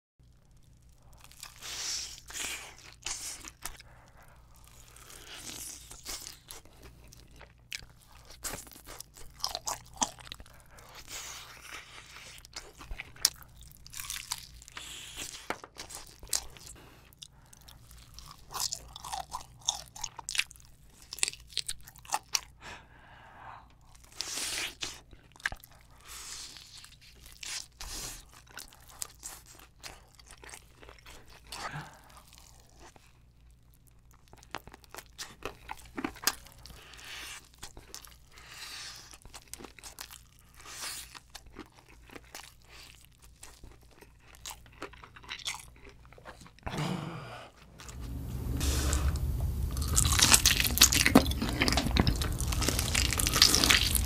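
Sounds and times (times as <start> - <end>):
crunching fried chicken: 0.3 - 22.5, 23.9 - 46.7, 47.8 - 54.0
chewing: 0.6 - 22.5, 23.9 - 46.8, 47.6 - 54.0.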